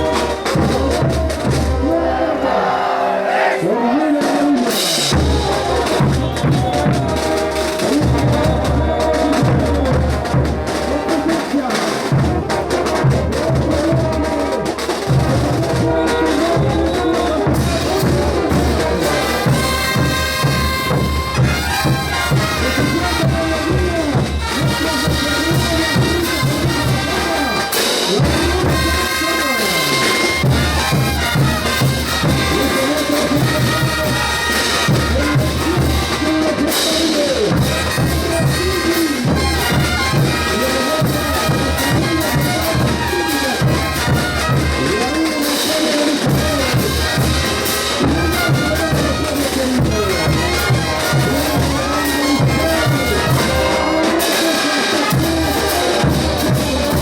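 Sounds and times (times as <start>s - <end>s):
bass drum and percussion beat: 0.0s - 2.0s, 4.2s - 57.0s
brass band playing: 0.0s - 57.0s.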